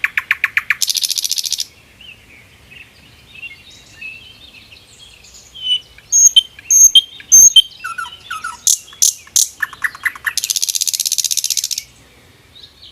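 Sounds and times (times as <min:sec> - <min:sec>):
nightingale singing: 0:00.0 - 0:12.9.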